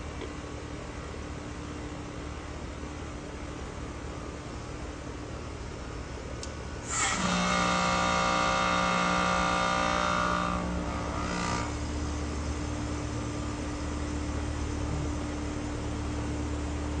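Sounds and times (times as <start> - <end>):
heat pump low hum: 0.0 - 17.0
refrigerant hissing with whine: 0.0 - 17.0.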